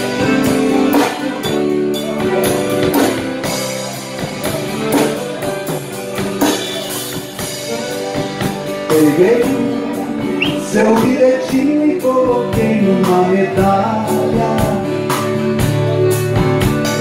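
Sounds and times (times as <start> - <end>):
accordion: 0.0 - 17.0
acoustic guitar strumming: 0.0 - 17.0
drum kit beat: 0.0 - 17.0.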